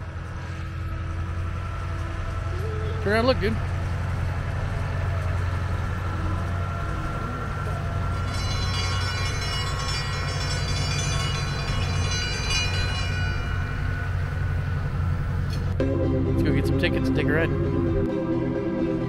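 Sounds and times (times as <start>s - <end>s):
rail car low drone: 0.0s - 19.0s.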